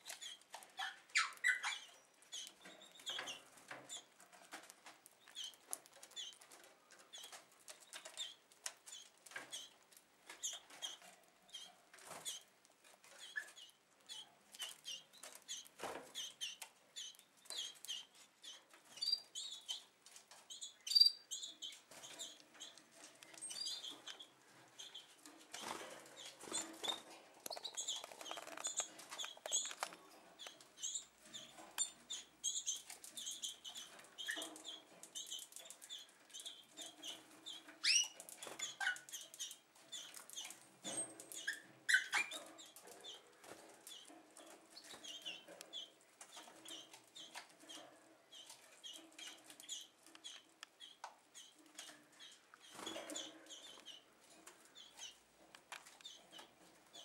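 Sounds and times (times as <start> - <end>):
canaries chirping: 0.0 - 57.0.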